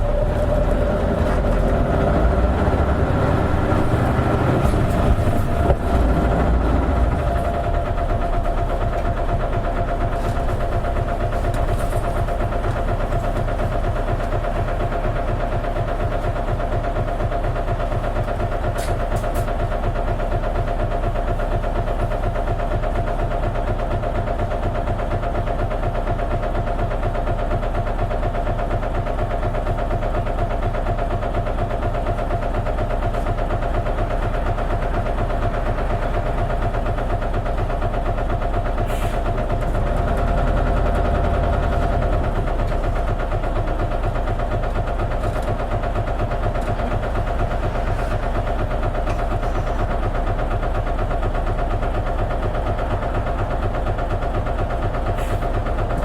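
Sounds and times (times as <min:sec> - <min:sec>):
diesel bus engine idling: 0:00.0 - 0:56.0.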